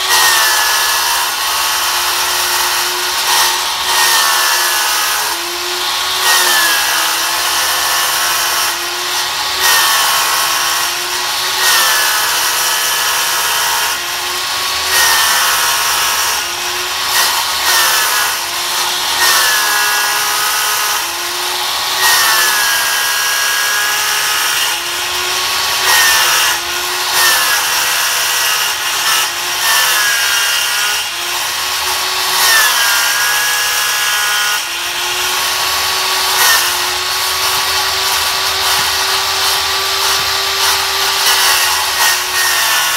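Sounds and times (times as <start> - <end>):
electric saw cutting plastic: 0.0 - 42.9.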